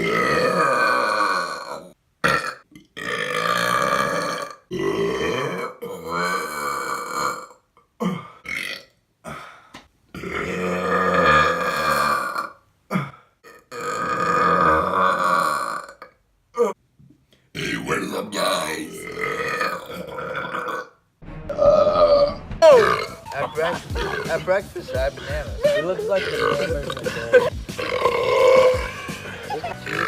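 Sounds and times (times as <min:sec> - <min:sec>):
men belching: 0:00.0 - 0:08.9, 0:10.1 - 0:16.8, 0:17.6 - 0:30.0.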